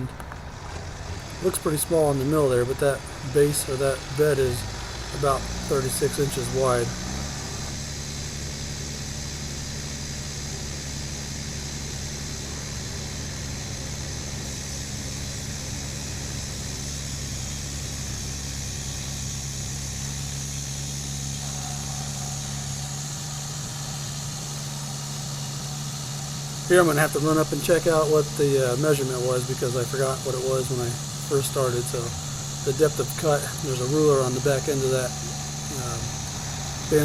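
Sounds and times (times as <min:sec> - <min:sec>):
engine idling hum: 0:00.0 - 0:37.0.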